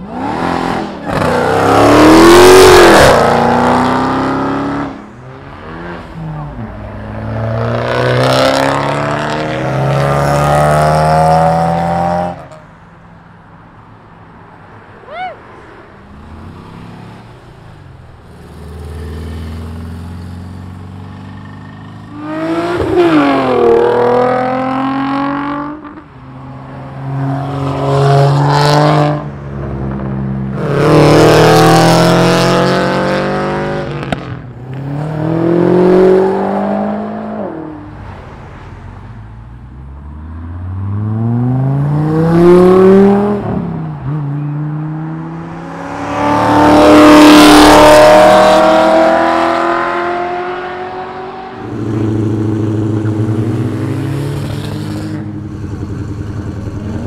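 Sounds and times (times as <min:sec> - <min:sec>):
cars accelerating past: 0:00.0 - 0:12.7, 0:15.6 - 0:57.0.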